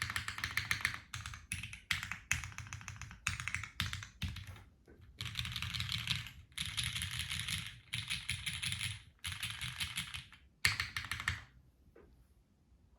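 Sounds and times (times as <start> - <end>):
mechanical keyboard typing: 0.0 - 11.5.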